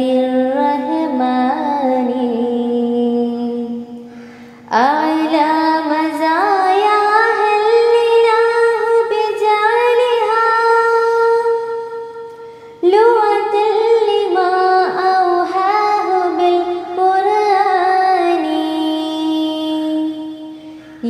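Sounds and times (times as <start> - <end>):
woman singing slow melody: 0.0 - 21.0.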